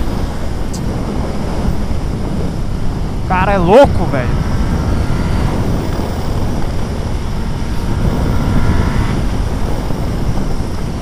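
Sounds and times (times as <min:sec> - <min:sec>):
motorcycle engine at speed: 0:00.0 - 0:11.0
wind rush on microphone: 0:00.0 - 0:11.0.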